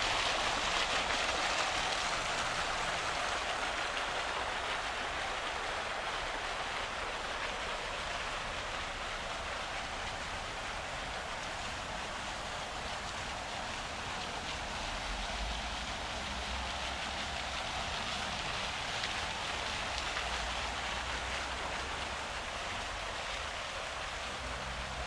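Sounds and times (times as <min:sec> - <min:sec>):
rain on wet pavement: 0:00.0 - 0:25.0.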